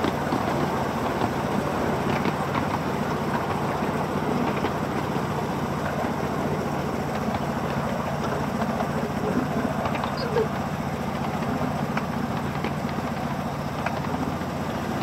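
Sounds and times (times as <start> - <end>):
locomotive low hum: 0.0 - 15.0
wheels rumbling on rails: 0.0 - 15.0.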